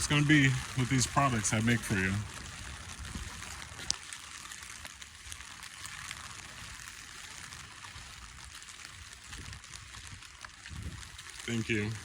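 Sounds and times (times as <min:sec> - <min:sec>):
rain hissing: 0:00.0 - 0:12.0
raindrop ticks: 0:00.0 - 0:12.0.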